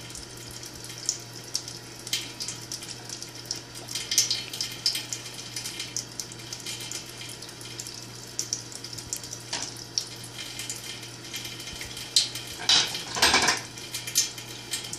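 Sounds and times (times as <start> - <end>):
faucet running into sink: 0.0 - 14.9.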